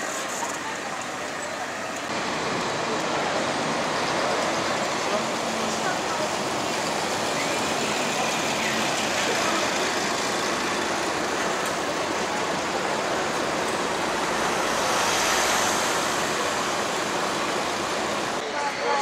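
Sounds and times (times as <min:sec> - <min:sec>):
bus driving past: 0:00.1 - 0:18.4
van rumbling past: 0:02.1 - 0:18.4.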